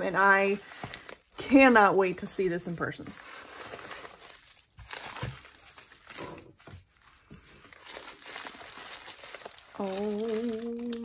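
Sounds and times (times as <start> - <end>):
paper and plastic wrap crinkling: 0.0 - 11.0.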